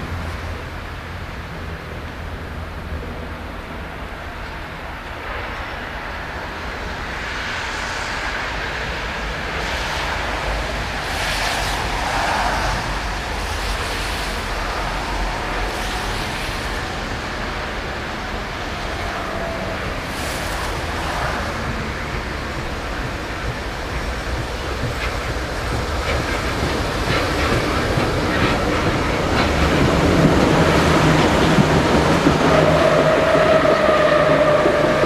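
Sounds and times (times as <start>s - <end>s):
train rumbling along track: 0.0s - 35.0s.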